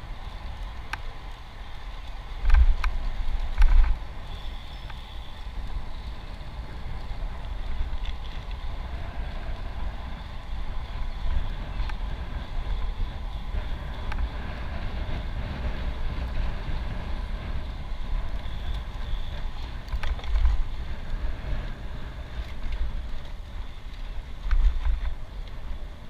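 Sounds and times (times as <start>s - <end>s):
tyres hissing on paved road: 0.0s - 26.0s
wind buffeting microphone: 0.0s - 26.0s.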